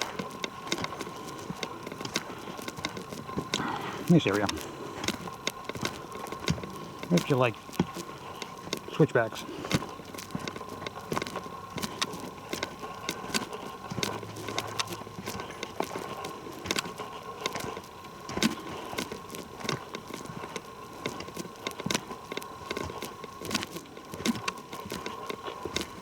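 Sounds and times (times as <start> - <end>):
footsteps crunching on trail: 0.0 - 26.0.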